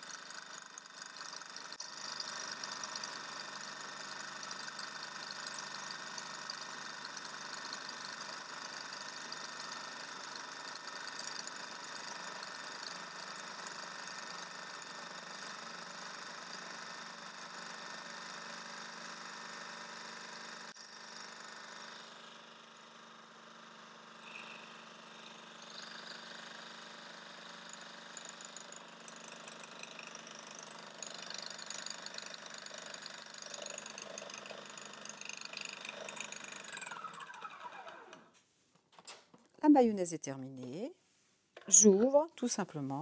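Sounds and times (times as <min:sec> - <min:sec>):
food processor motor running: 0:00.0 - 0:38.4.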